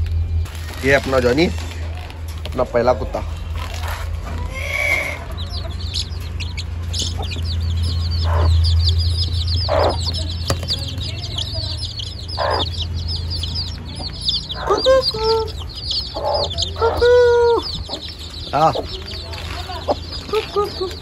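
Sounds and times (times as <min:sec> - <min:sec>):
chicks peeping: 0:00.8 - 0:21.0
steady low hum: 0:01.6 - 0:20.0
hen clucking: 0:02.5 - 0:21.0.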